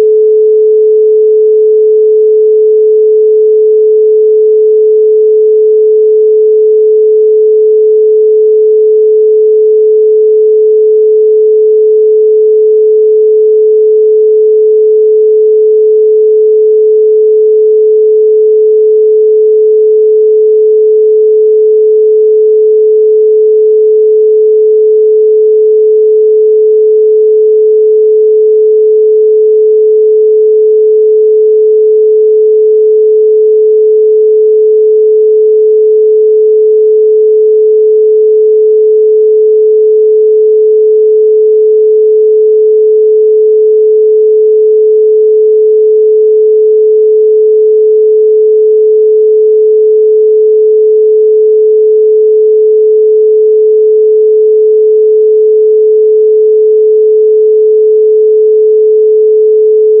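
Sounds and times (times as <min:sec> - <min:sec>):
pure sine tone: 0:00.0 - 1:00.0.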